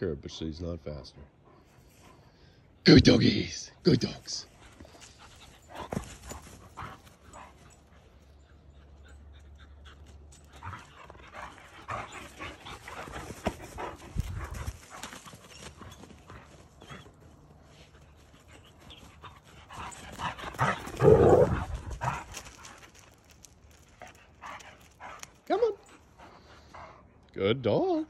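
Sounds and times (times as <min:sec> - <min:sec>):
dog panting: 0:01.1 - 0:02.8, 0:04.4 - 0:27.3.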